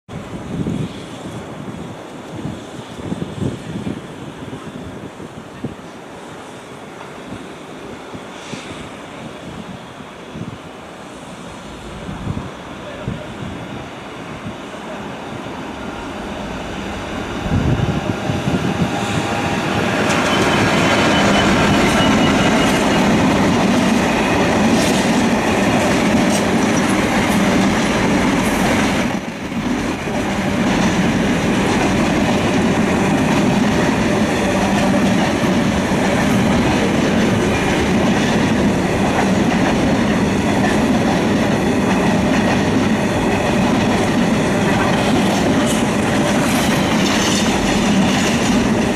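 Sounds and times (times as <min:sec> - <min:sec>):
diesel locomotive passing: 0:00.2 - 0:48.9.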